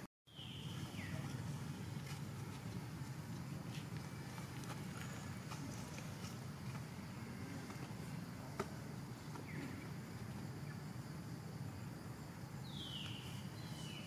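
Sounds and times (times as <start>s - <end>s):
outdoor background hum: 0.0s - 14.0s.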